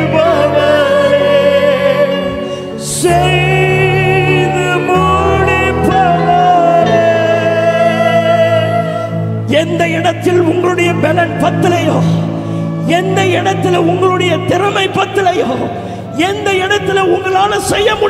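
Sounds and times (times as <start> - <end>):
keyboard chords: 0.0 - 18.0
singers holding long notes: 0.0 - 18.0.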